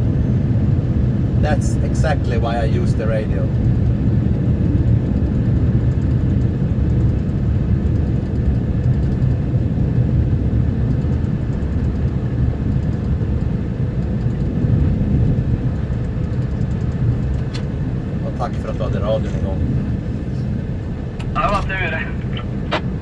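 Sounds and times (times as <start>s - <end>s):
snowplow truck engine rumble: 0.0s - 23.0s.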